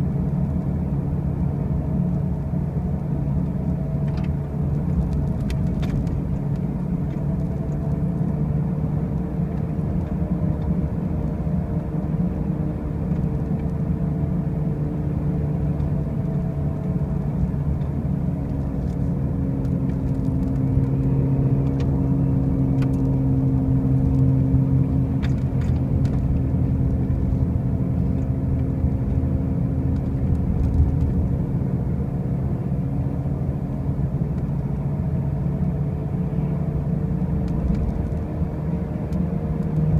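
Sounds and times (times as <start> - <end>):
car driving with low drone: 0.0 - 39.9.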